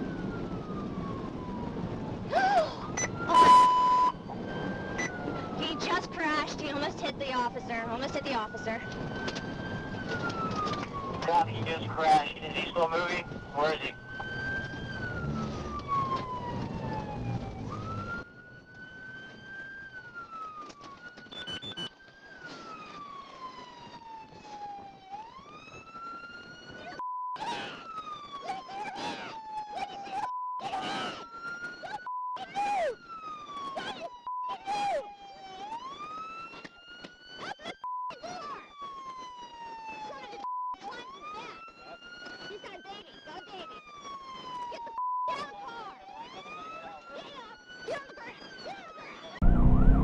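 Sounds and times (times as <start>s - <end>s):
police siren wailing: 0.0s - 50.0s
road and engine noise: 0.0s - 50.0s.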